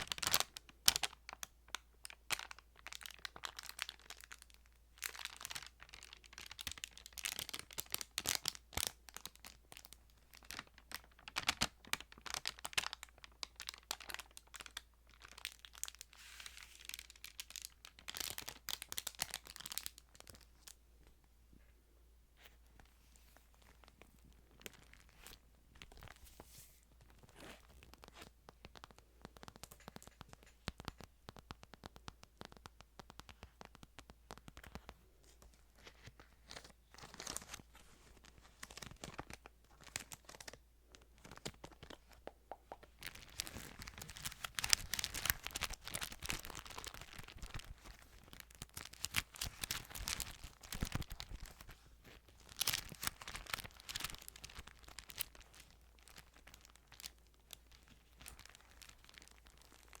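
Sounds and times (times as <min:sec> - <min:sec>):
thin pages crinkling: 0:05.0 - 0:20.8, 0:22.8 - 1:00.0.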